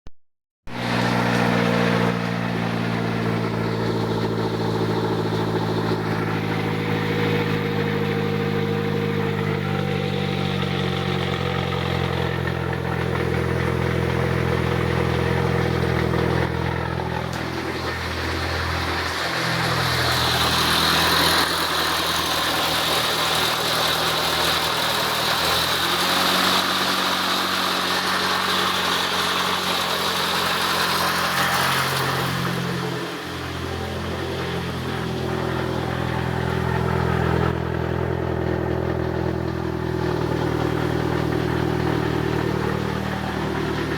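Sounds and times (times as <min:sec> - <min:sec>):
car engine buzzing: 0:00.7 - 0:43.9.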